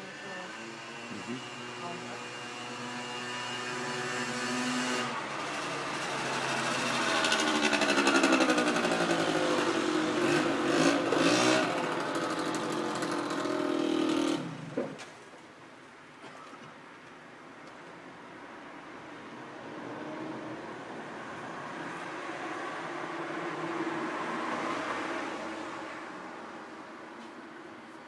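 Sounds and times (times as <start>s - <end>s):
vehicle engine passing by: 0.0s - 14.8s, 19.2s - 27.2s.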